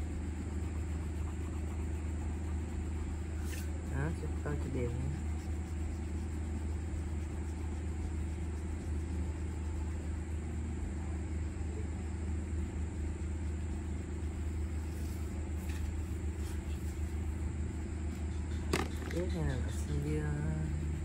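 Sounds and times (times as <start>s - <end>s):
low hum and rumble: 0.0s - 21.0s.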